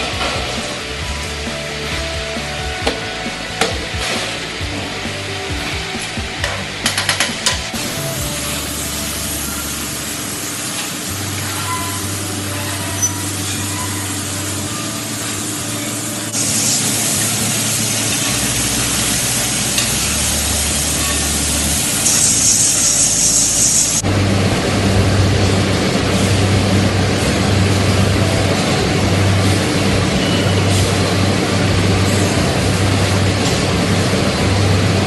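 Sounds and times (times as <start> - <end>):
factory machinery hum and hiss: 0.0 - 35.0.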